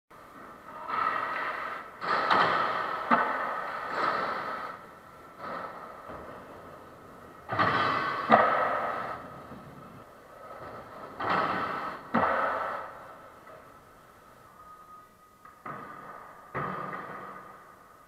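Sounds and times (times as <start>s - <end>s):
skateboard wheels rolling on concrete: 0.1s - 14.5s, 15.4s - 18.0s
skateboard clack: 0.2s - 13.8s, 15.4s - 18.0s.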